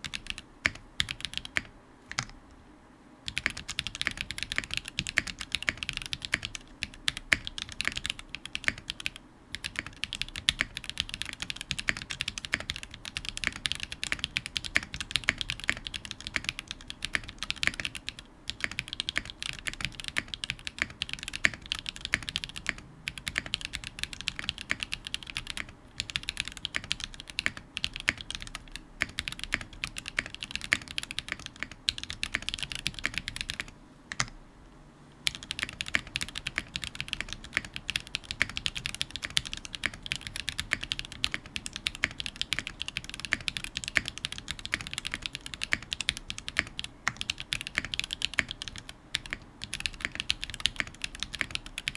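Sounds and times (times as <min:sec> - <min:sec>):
mechanical keyboard typing: 0:00.0 - 0:02.4, 0:03.3 - 0:34.4, 0:35.2 - 0:51.9.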